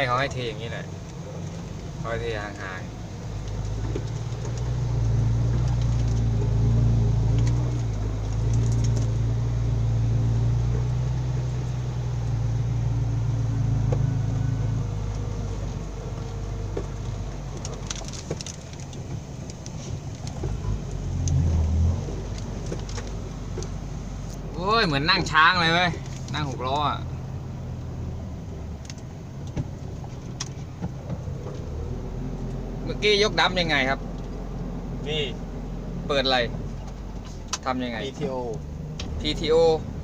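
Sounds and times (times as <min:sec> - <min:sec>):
diesel truck engine revving: 0:00.0 - 0:40.0.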